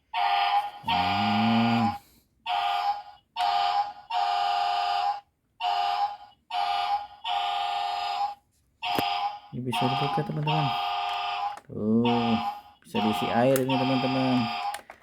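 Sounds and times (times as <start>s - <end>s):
toy buzzy beeping alarm: 0.1s - 14.9s.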